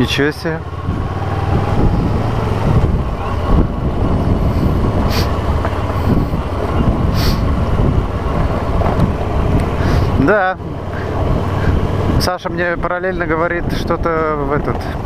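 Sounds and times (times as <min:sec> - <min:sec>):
motorcycle engine running: 0:00.0 - 0:15.0
road and tyre noise: 0:00.0 - 0:15.0.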